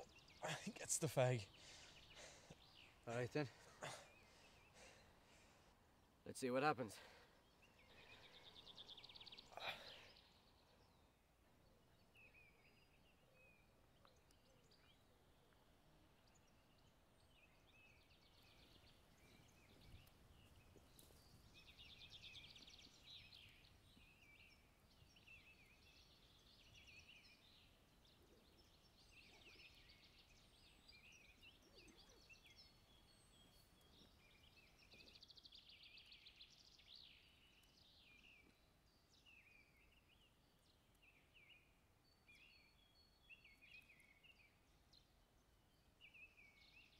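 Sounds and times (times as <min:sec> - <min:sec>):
faint songbirds singing: 0:00.0 - 0:46.9.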